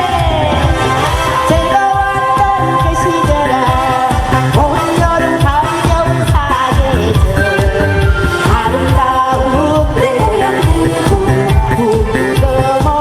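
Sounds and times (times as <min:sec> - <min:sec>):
pop accompaniment with steady beat: 0:00.0 - 0:13.0.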